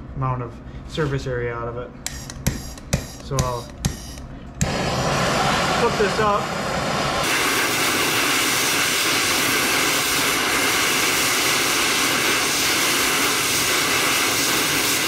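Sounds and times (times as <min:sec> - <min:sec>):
gas torch hissing: 0:02.1 - 0:15.0.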